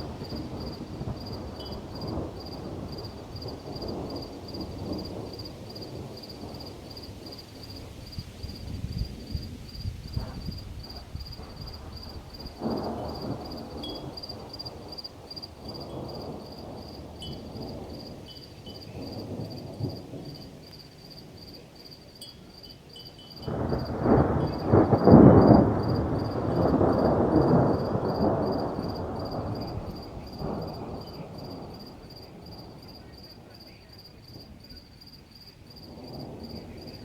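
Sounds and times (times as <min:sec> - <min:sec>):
insects chirping: 0:00.0 - 0:37.0
thunder rumbling: 0:00.0 - 0:37.0.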